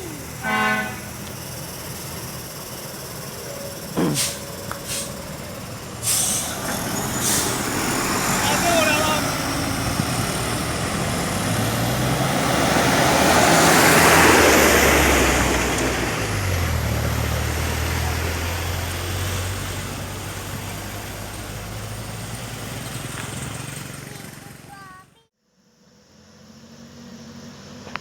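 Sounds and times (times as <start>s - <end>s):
bus diesel engine passing: 0.0s - 28.0s.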